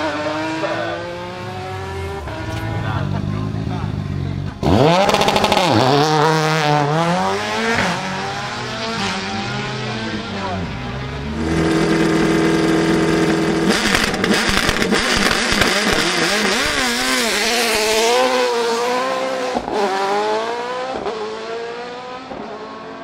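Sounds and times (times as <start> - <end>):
car accelerating through upshifts: 0.0 - 3.6, 4.4 - 23.0
racing car engine revving: 0.0 - 23.0.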